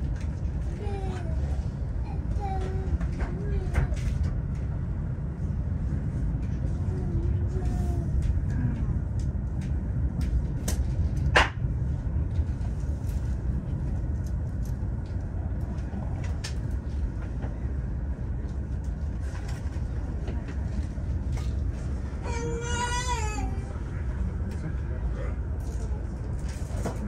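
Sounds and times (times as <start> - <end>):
train rumbling over bridge: 0.0 - 27.0.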